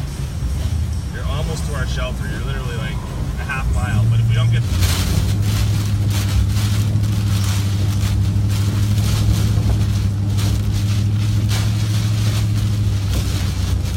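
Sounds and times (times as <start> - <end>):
gusting hurricane wind: 0.0 - 13.9
steady low rumble: 0.0 - 13.9.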